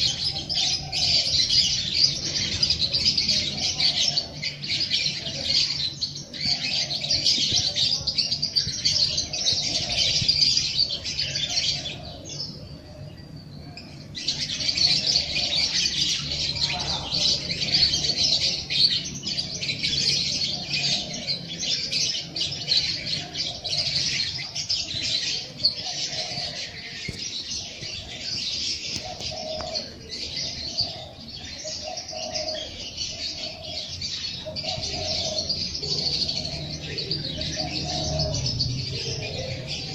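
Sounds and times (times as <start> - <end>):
lower bird calls: 0.0 - 39.9
songbirds chirping: 0.0 - 39.9.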